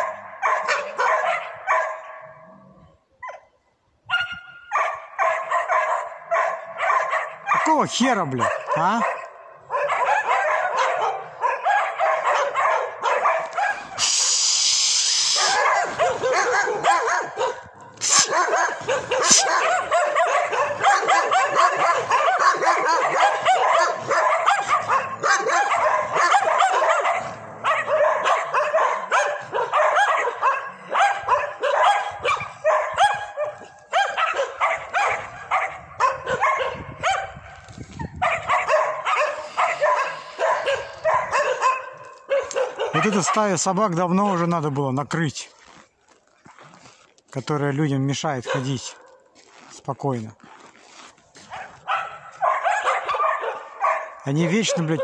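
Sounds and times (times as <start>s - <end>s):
dogs barking and yipping: 0.0s - 2.4s, 3.2s - 44.4s, 48.4s - 49.7s, 50.9s - 55.0s.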